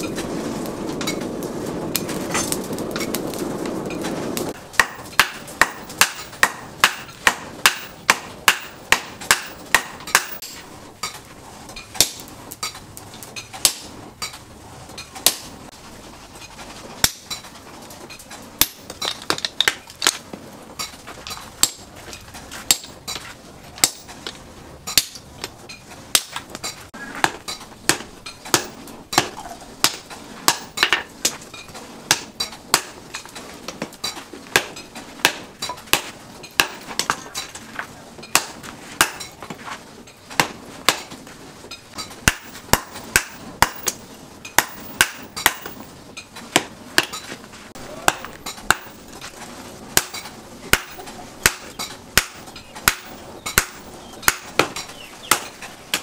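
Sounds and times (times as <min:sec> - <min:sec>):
hammer striking hot steel: 0:00.0 - 0:01.3, 0:01.9 - 0:15.6, 0:17.0 - 0:17.5, 0:18.1 - 0:56.0.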